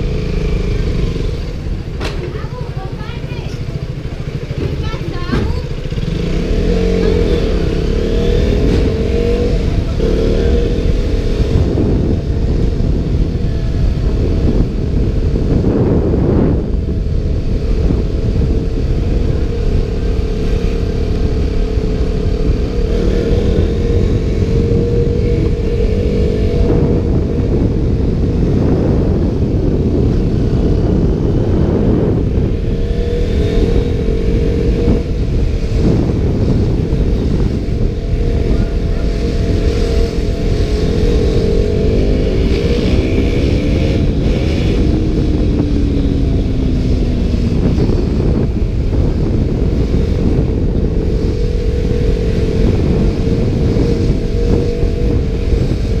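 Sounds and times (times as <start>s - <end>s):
motorcycle engine accelerating: 0.0s - 56.0s
wind rumble on microphone: 0.0s - 56.0s.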